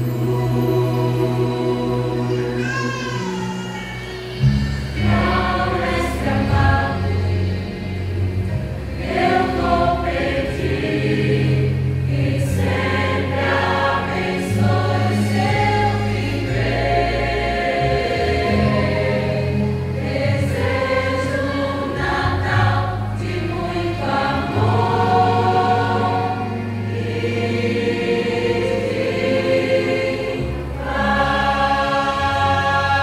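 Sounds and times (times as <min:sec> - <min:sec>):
choir singing: 0:00.0 - 0:03.8, 0:04.4 - 0:33.0.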